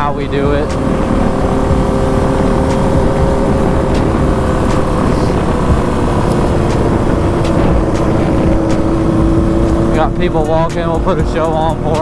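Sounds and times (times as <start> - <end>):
dirt bike engine running: 0.0 - 12.0
wind and road noise: 0.0 - 12.0.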